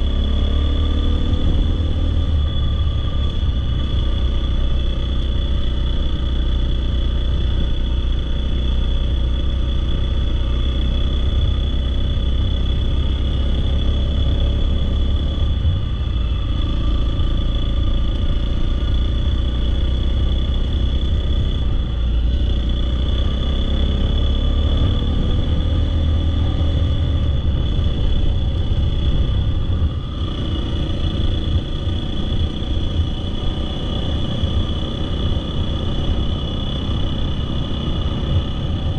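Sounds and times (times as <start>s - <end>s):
dirt bike engine rumbling: 0.0s - 38.9s.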